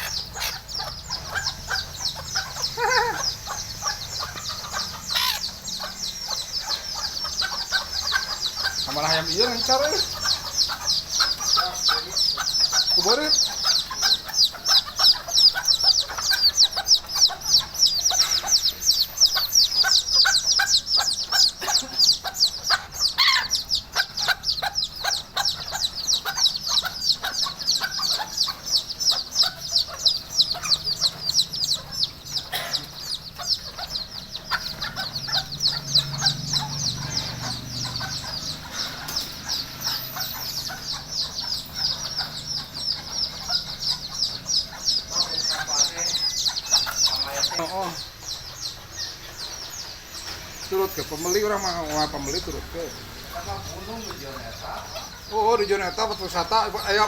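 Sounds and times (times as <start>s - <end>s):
chickens clucking and calling: 0.0s - 57.0s
fast high-pitched peeping: 0.0s - 57.0s.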